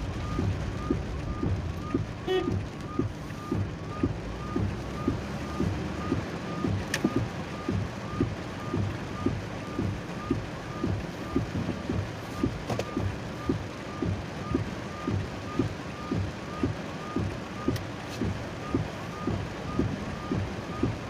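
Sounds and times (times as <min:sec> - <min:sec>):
rain and road noise: 0:00.0 - 0:21.0.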